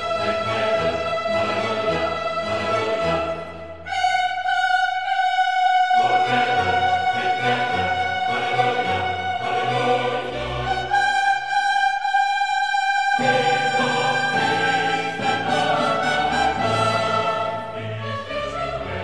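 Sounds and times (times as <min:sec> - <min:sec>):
choral and orchestral music: 0:00.0 - 0:19.0.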